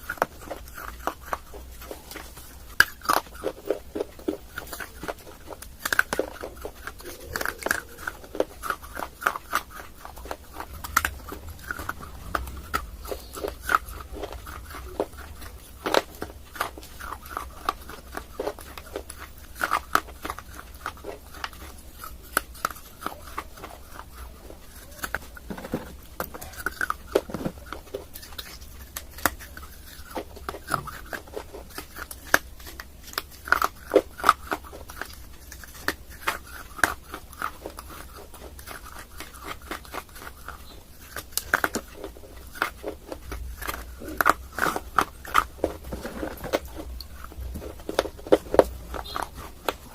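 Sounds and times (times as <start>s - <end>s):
chewing dry clay crunches: 0.0s - 49.9s.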